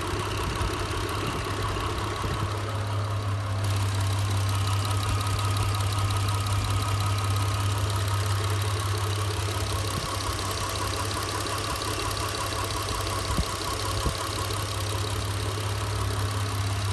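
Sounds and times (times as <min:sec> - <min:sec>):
car engine running: 0:00.0 - 0:16.9
fast ticking engine knock: 0:00.0 - 0:16.9.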